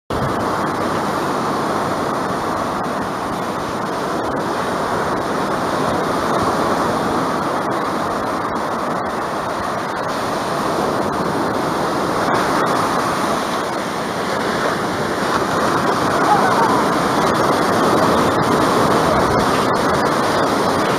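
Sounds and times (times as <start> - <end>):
ocean surf breaking on beach: 0.1 - 20.9.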